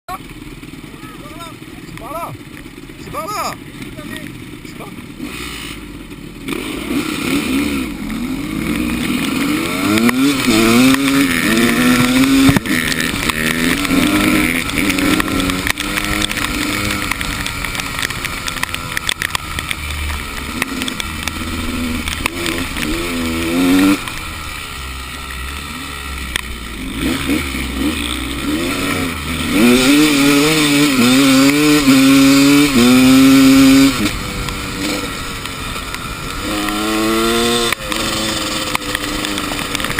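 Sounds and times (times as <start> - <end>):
motorcycle engine revving: 0.1 - 39.9.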